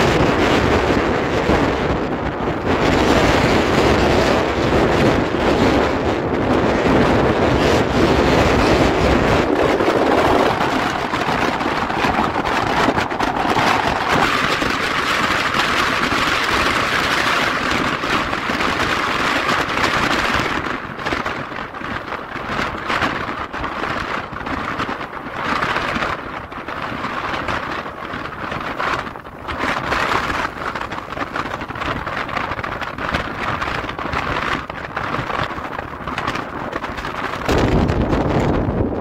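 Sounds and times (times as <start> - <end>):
strong wind buffeting microphone: 0.0 - 39.0
waves slapping on water: 0.0 - 39.0.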